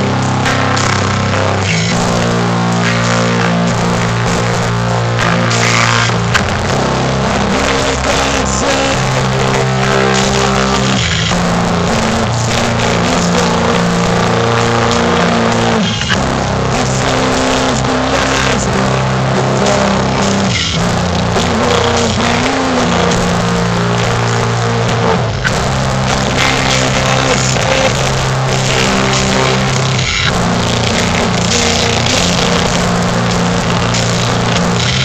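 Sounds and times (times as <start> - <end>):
heavy metal band playing live: 0.0 - 35.0.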